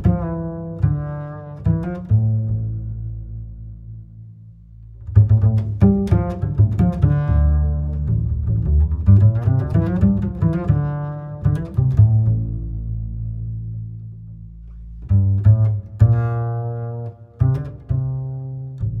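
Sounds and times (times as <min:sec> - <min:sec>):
low string instrumental music: 0:00.0 - 0:19.0.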